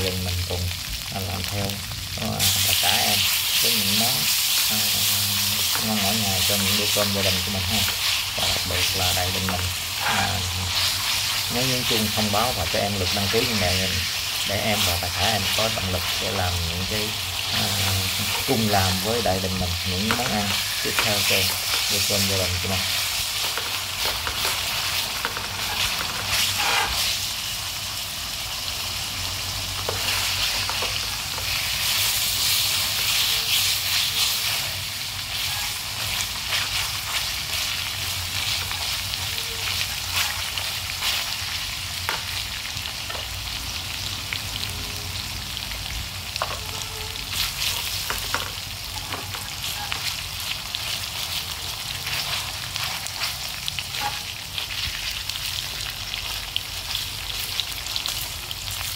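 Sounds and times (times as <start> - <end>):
meat sizzling in oil: 0.0 - 58.9.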